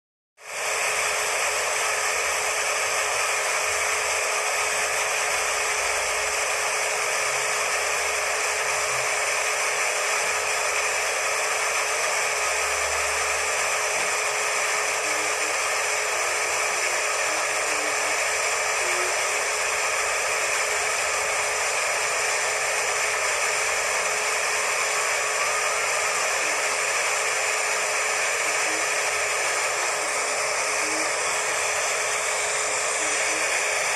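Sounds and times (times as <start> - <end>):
hair dryer running: 0.4 - 33.9.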